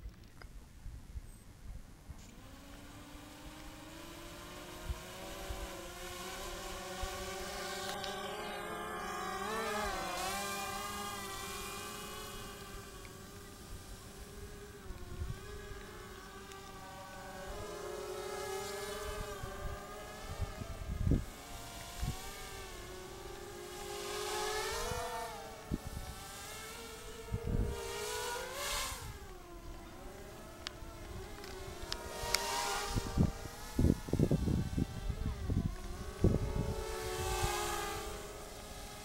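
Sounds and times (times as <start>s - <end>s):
quadcopter motors whining: 1.2s - 39.0s.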